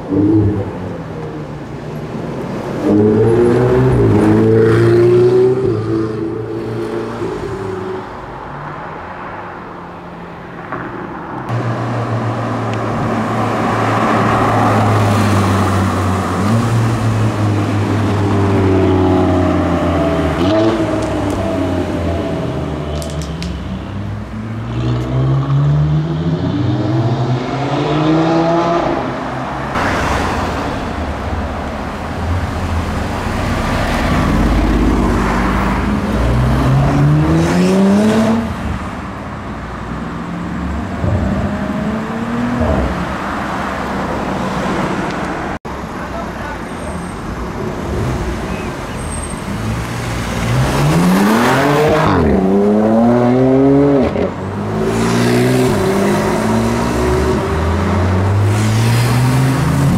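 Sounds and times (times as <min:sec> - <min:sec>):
car engines accelerating: 0:00.0 - 0:59.9
passing traffic: 0:00.0 - 0:59.9.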